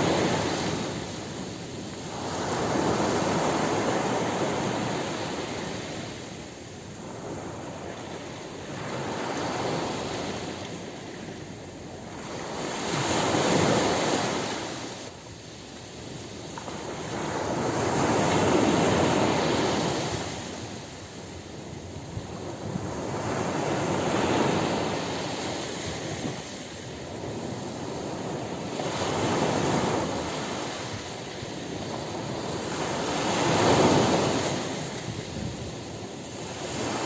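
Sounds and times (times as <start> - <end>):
ocean waves breaking on beach: 0.0 - 37.0.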